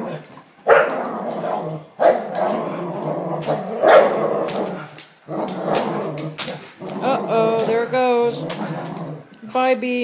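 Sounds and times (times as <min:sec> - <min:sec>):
dogs growling in play: 0:00.0 - 0:09.5.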